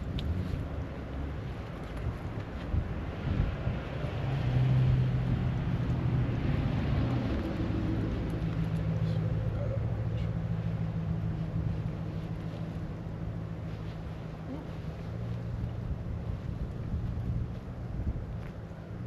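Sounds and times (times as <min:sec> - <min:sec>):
steady engine hum: 0:00.0 - 0:19.0.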